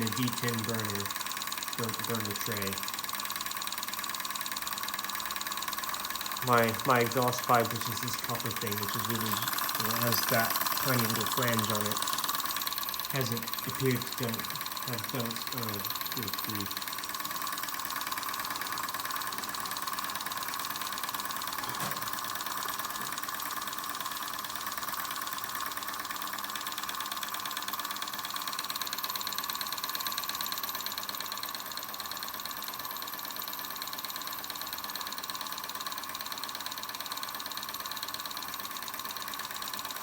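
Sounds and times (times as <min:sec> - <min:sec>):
toy steam engine clattering: 0:00.0 - 0:40.0.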